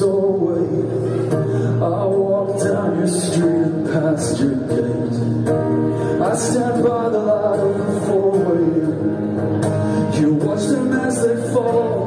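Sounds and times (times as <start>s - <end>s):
acoustic guitar strumming: 0.0s - 12.0s
man singing: 0.0s - 12.0s.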